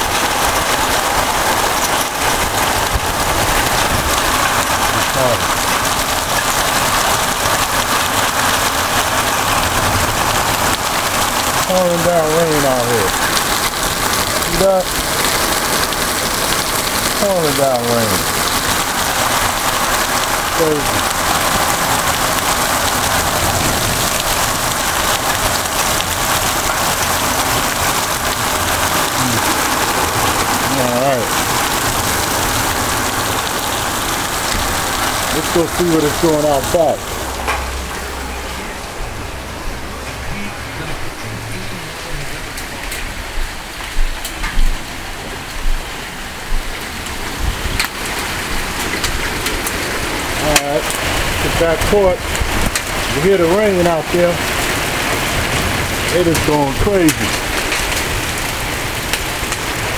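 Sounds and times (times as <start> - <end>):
heavy rain pouring and splashing: 0.0 - 59.9.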